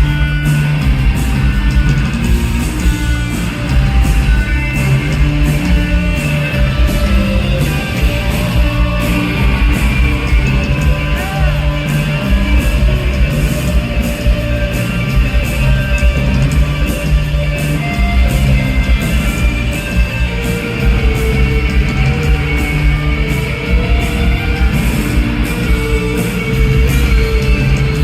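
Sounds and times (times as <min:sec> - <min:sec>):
cymbals keeping a beat: 0:00.0 - 0:28.0
live rock band playing: 0:00.0 - 0:28.0.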